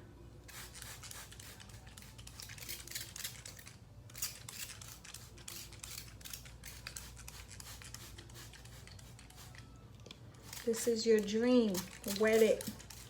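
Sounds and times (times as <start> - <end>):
spray bottle squirting water: 0.5 - 9.6, 10.4 - 13.0.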